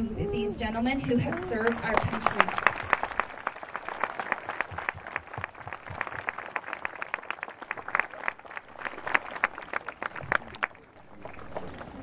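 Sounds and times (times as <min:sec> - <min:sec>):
children applauding: 0:01.2 - 0:12.0.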